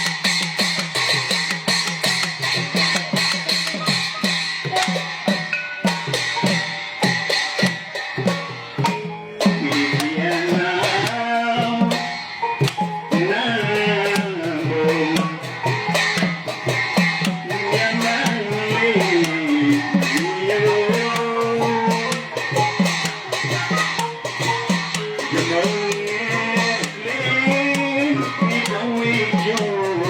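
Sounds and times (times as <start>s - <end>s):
drums beating steady rhythm: 0.0s - 30.0s
sharp percussion ticks: 0.0s - 30.0s.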